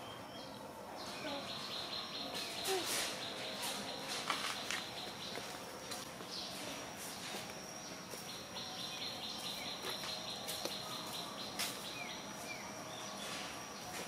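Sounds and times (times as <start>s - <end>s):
high insect tone: 0.0s - 14.0s.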